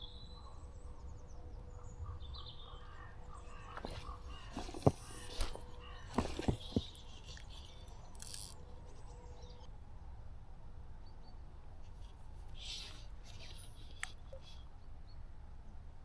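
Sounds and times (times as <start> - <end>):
birds calling faintly: 0.0 - 16.0.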